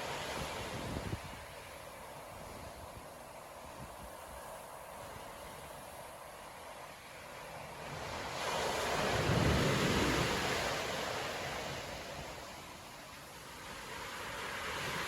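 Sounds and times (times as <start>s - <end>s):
wave breaking on beach: 0.0s - 15.0s.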